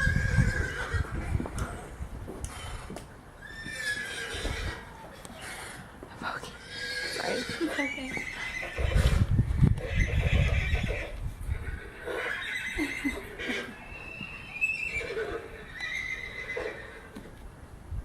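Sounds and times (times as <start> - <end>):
horse whinnying: 0.0 - 1.8, 2.5 - 5.8, 6.6 - 17.2.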